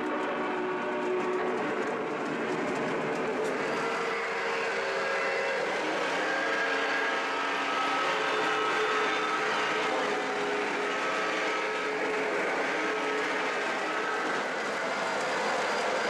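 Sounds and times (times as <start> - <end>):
humming whine: 0.0 - 16.0
model train wheels rolling: 0.0 - 16.0.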